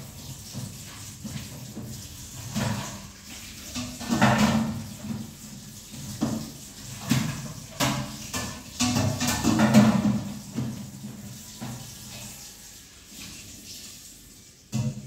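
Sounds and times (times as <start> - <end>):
dishes clattering and scraping: 0.1 - 13.5, 14.7 - 15.0.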